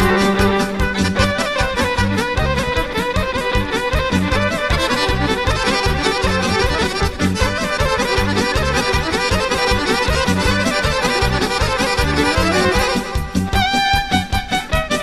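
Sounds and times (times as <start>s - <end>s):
accordion music over a beat: 0.0s - 15.0s.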